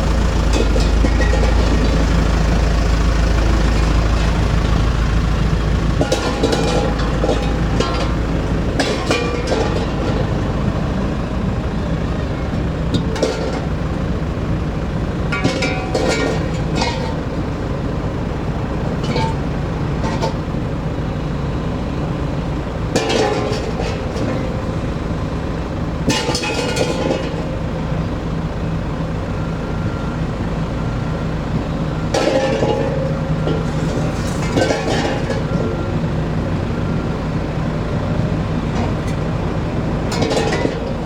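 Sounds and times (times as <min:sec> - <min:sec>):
engine droning: 0:00.0 - 0:41.0.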